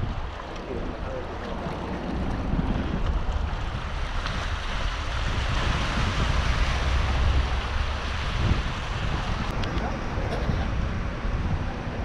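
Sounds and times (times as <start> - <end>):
waves splashing against rocks: 0.0 - 12.0
wind buffeting microphone: 0.0 - 12.0.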